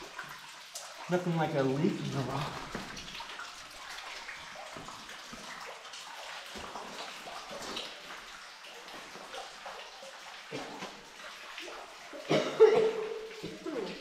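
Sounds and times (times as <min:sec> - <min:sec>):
stream water running and splashing: 0:00.0 - 0:14.0.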